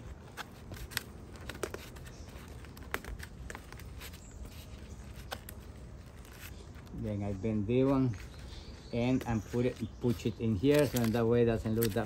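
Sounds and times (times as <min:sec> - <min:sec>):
wire clicking and crinkling: 0:00.0 - 0:12.0.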